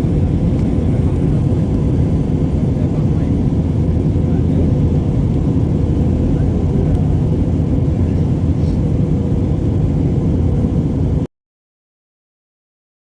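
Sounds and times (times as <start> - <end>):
airplane rumble: 0.0 - 11.3.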